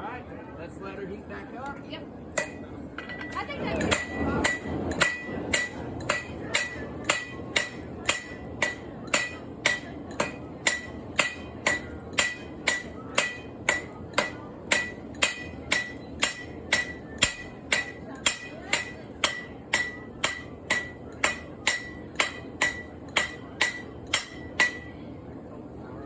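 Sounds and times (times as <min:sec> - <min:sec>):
hammer striking an anvil: 0:02.4 - 0:24.9.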